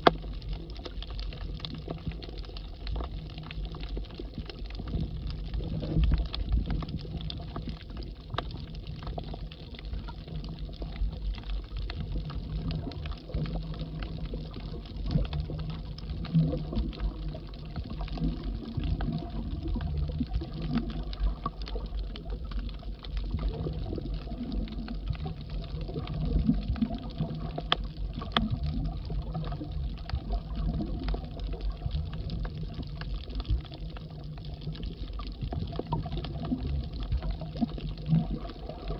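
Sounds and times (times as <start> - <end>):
faint underwater clicks: 0.0 - 38.9
underwater water rumble: 0.0 - 38.9.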